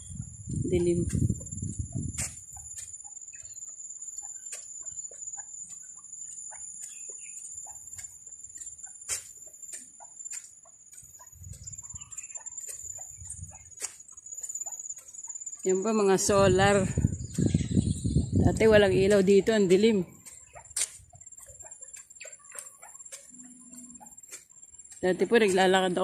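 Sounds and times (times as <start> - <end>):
chickens clucking: 0.0 - 25.8
bird chirps: 0.0 - 26.0
high-pitched insect buzz: 0.0 - 26.0
footsteps on wet pavement: 0.8 - 3.5, 4.5 - 23.4, 24.2 - 26.0.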